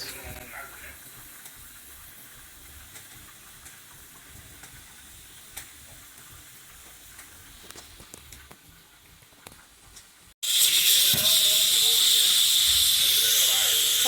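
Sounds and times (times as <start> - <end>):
faint sizzle: 0.0 - 14.0.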